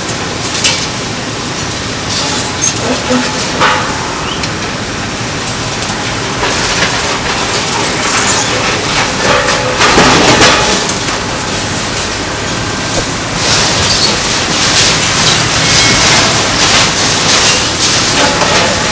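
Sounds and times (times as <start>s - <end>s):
heavy machinery running: 0.0s - 18.9s
clanking and crashing structure: 1.6s - 18.9s.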